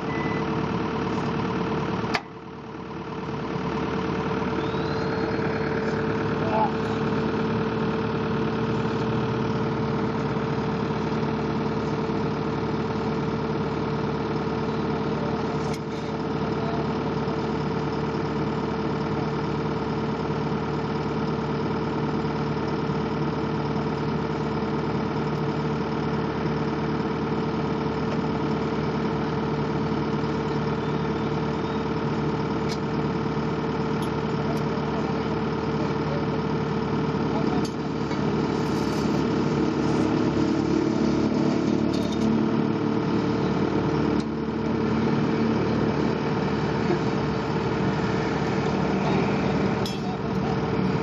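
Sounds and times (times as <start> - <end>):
skid steer engine running: 0.0 - 51.0.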